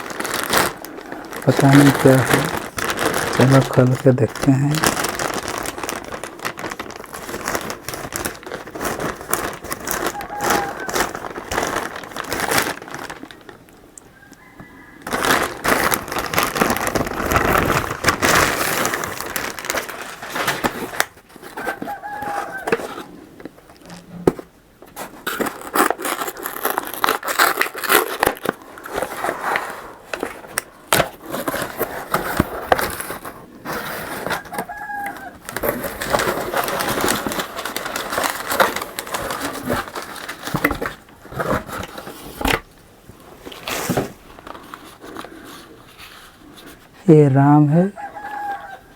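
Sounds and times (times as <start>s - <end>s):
packaging being torn and crumpled: 0.0s - 42.8s, 43.4s - 46.8s.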